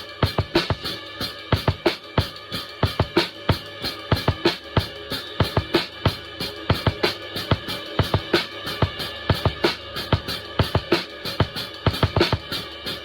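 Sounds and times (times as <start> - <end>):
drum kit groove: 0.0 - 13.0
musical backing: 0.0 - 13.0.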